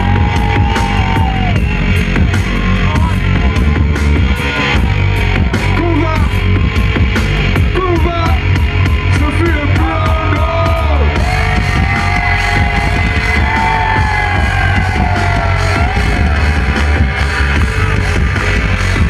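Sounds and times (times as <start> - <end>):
live band music over speakers: 0.0 - 19.0.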